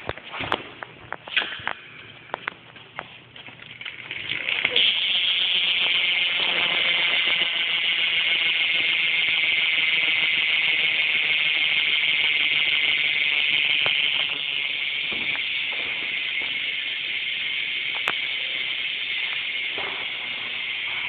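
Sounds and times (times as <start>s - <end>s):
bike hub ratcheting: 3.6s - 21.0s.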